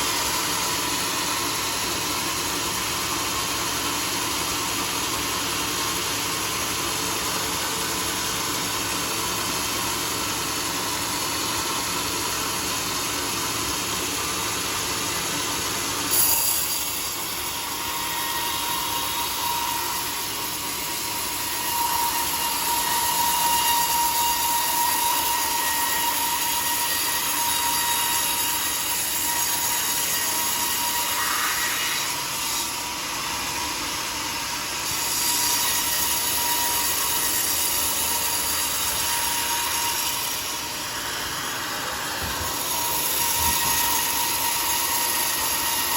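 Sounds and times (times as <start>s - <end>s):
sawmill saw cutting log: 0.0s - 45.9s.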